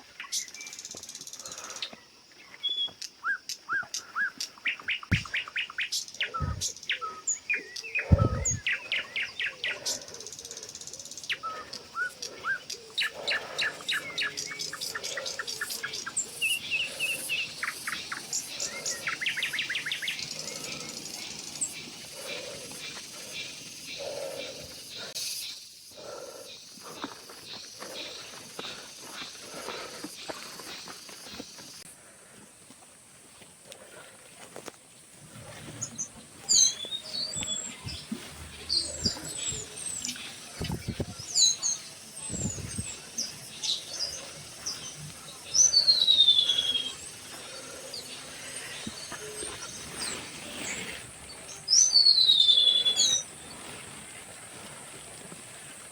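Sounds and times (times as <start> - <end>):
wild birds calling: 0.0 - 32.6, 35.2 - 54.0
background hiss: 3.0 - 55.8.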